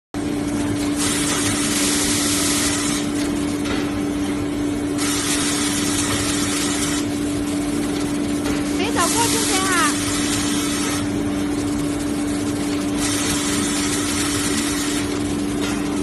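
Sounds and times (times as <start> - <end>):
band saw machine hum: 0.8 - 16.0.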